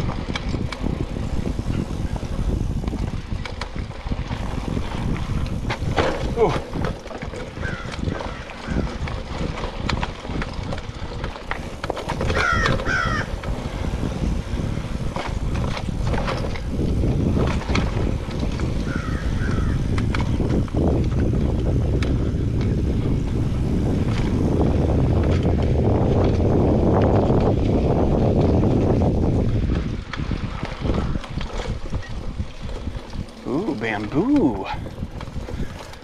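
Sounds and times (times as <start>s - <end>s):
bike rattling and knocking: 0.0s - 36.0s
bike tyres rolling on dirt: 0.0s - 36.0s.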